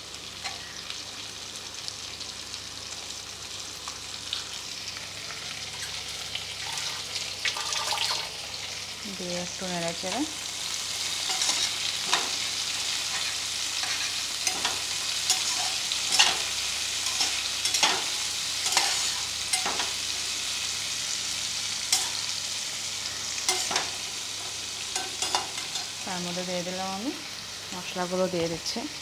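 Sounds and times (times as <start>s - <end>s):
potato and onion sizzling in oil: 0.0s - 29.0s.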